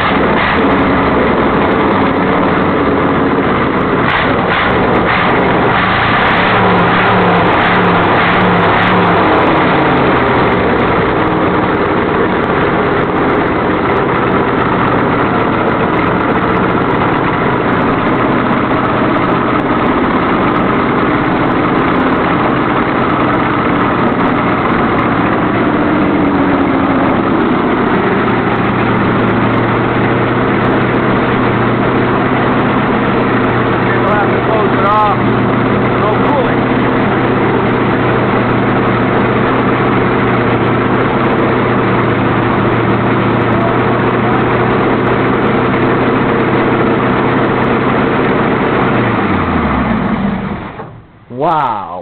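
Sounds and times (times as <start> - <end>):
loud engine running open exhaust: 0.0 - 52.0.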